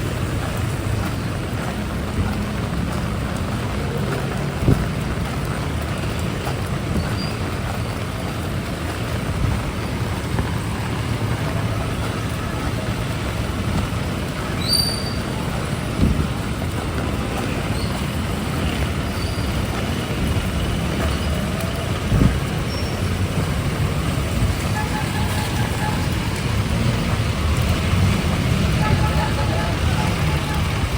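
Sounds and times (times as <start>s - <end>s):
heavy rain falling: 0.0s - 30.9s
road traffic passing: 0.0s - 30.9s.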